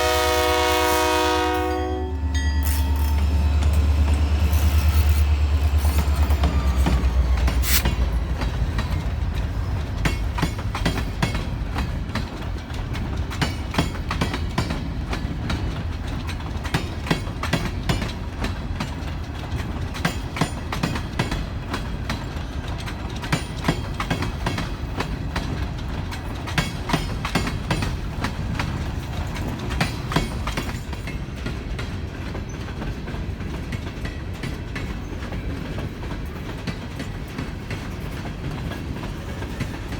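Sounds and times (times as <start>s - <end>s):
diesel locomotive engine rumbling: 0.0s - 39.9s
train wheels clacking on rail joints: 2.4s - 39.9s.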